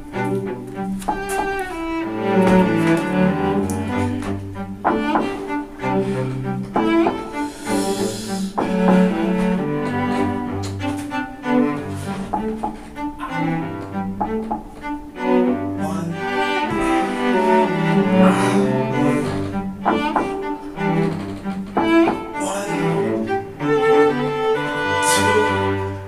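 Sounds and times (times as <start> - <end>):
low bowed string instrument: 0.0 - 26.0.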